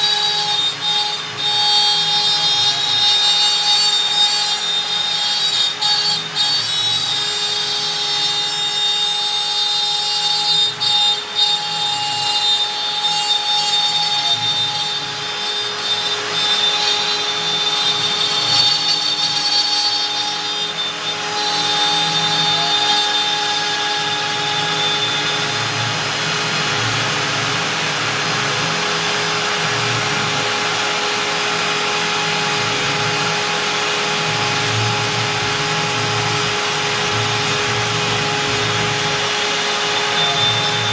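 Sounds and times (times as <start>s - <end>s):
cnc router spindle whine: 0.0s - 40.9s
router bit cutting wood: 0.0s - 40.9s.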